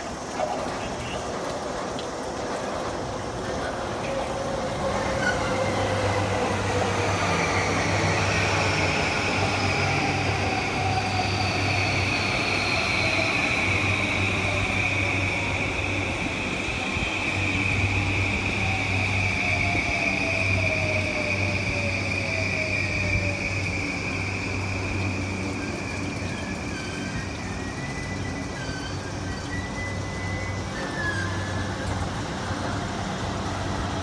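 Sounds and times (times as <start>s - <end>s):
electric train motor whine: 3.2s - 34.0s.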